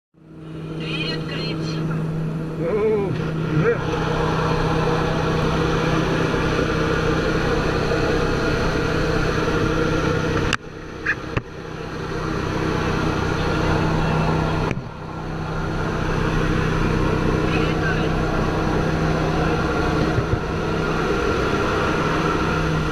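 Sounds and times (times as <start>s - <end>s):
airplane engines and propellers drone: 0.2s - 22.9s.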